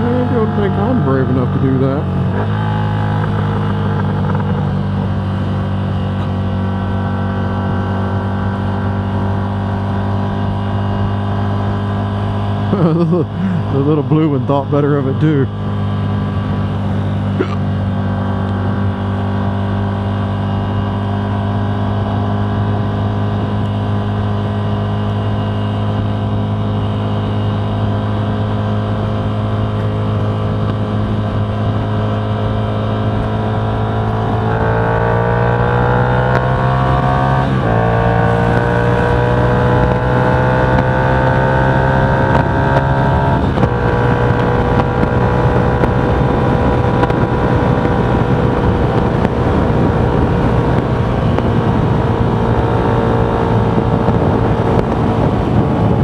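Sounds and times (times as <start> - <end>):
vehicle engine accelerating: 0.0 - 56.0.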